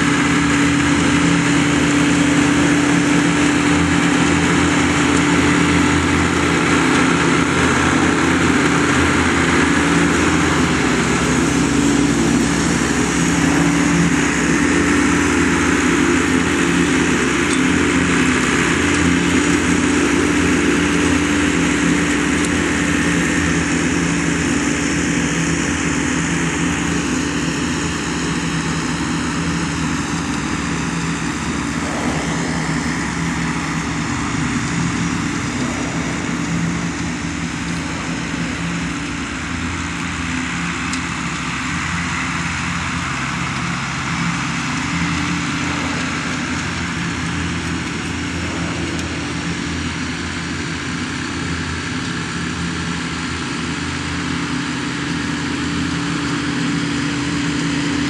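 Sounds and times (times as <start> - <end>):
mower engine running: 0.0 - 58.0.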